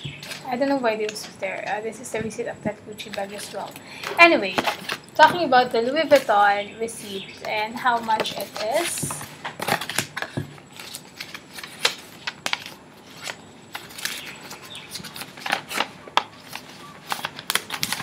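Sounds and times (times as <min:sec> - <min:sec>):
paper rustling: 0:00.0 - 0:01.4, 0:03.0 - 0:18.0.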